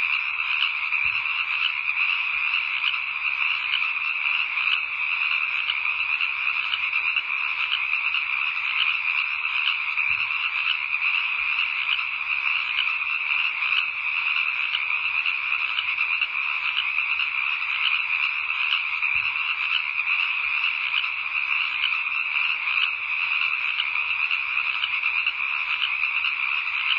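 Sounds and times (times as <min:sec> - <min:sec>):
frog chorus: 0:00.0 - 0:26.9.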